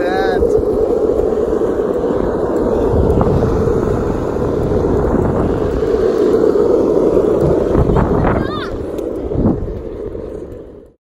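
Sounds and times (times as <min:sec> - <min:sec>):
longboard wheels rolling on asphalt: 0:00.0 - 0:11.0.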